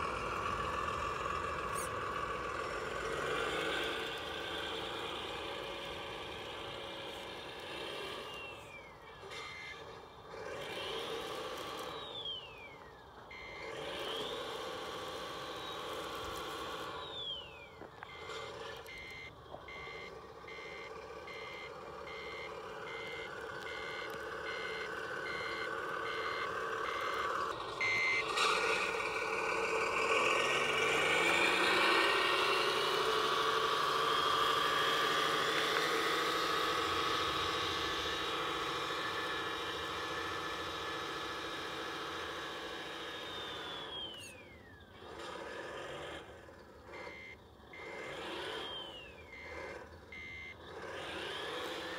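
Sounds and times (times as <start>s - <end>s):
reversing beeper: 0.0s - 10.0s, 11.3s - 44.8s, 47.0s - 50.7s
simulated truck engine: 0.0s - 51.9s.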